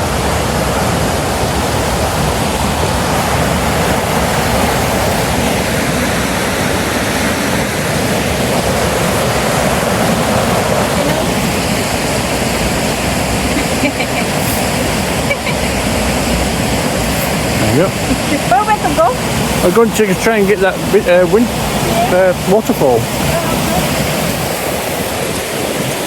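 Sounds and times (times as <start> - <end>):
water rushing over waterfall: 0.0 - 26.0.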